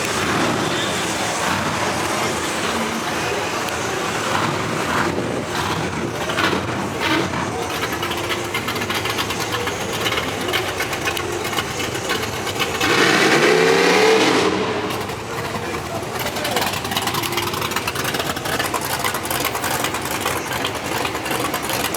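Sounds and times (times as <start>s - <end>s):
car engines running: 0.0s - 21.9s
engine revving: 0.0s - 21.9s
noisy crowd: 0.0s - 21.9s.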